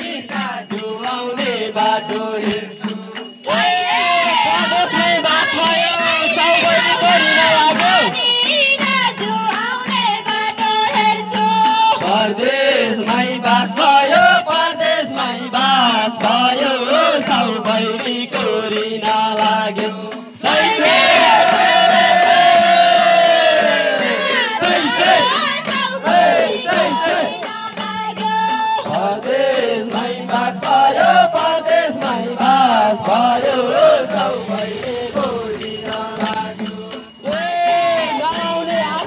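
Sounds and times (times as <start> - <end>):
group singing folk song: 0.0 - 39.0
hand drums beating: 0.0 - 39.0.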